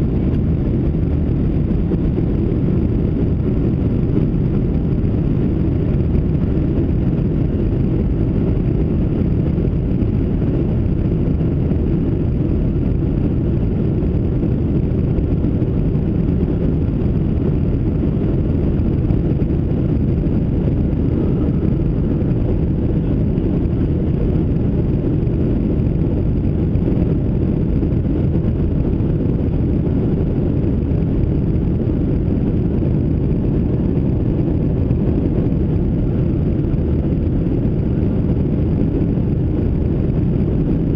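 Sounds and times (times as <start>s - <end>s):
jet engine roar in cabin: 0.0s - 40.9s.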